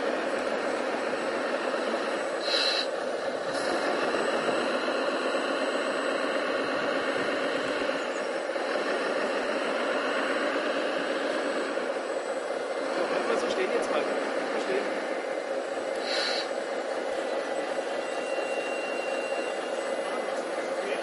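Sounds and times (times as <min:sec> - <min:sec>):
model truck motors running: 0:00.0 - 0:21.0.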